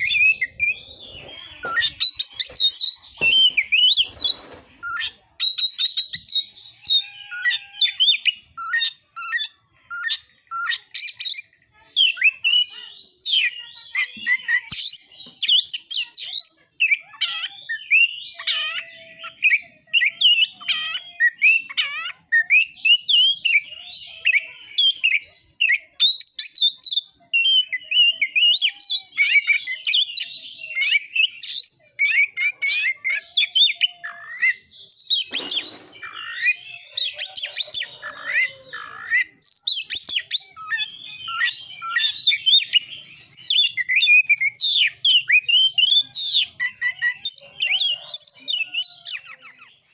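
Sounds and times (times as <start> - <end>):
bird song of whistles and chirps: 0.0 - 49.9.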